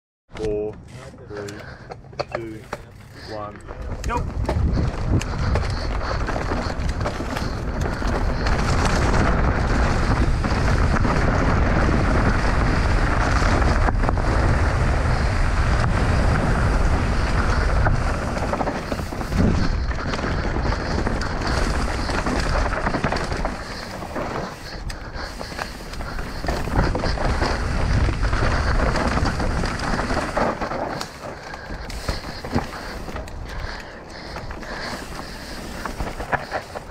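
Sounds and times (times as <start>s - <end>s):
bike clattering over rocks: 0.4s - 36.9s
wind buffeting microphone: 3.2s - 36.9s.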